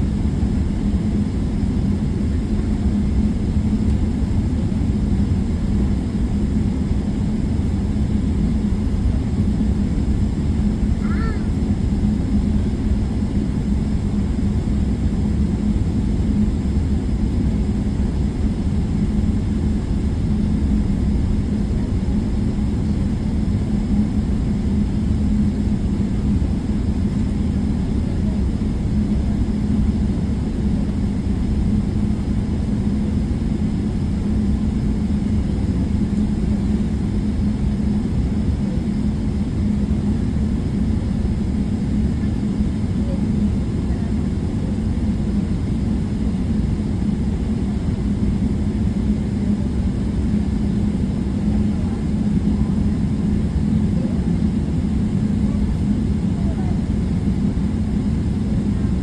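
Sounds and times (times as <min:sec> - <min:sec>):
jet engines humming in cabin: 0:00.0 - 0:59.0.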